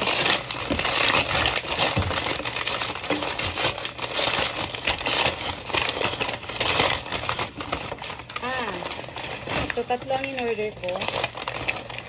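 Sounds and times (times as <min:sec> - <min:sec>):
packing paper crinkling and tearing: 0:00.0 - 0:12.0.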